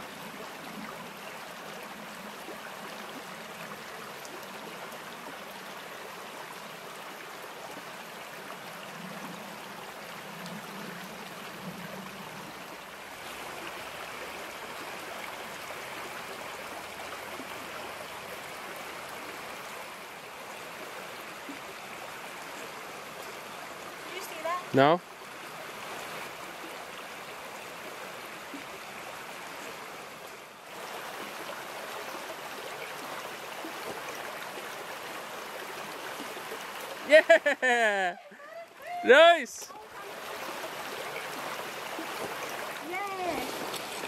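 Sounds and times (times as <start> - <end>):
brook flowing over stones: 0.0 - 44.0.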